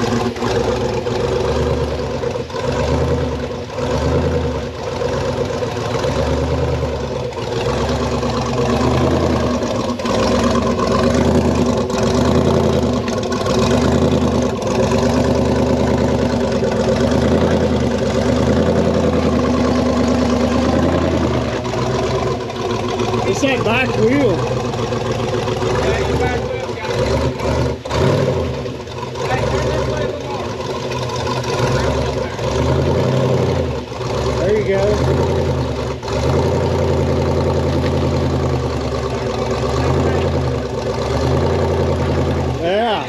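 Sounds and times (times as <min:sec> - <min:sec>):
off-road engine revving in pulses: 0:00.0 - 0:43.0.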